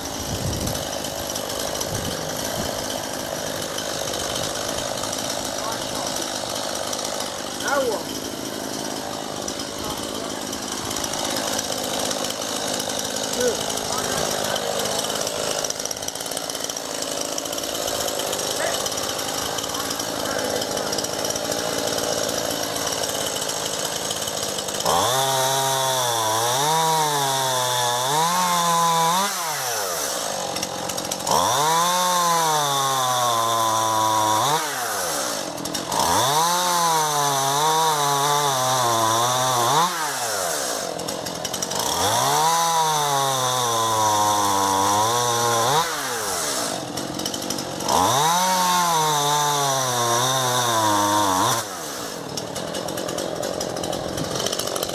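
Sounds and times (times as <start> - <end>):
chainsaw idling and revving: 0.0 - 54.9.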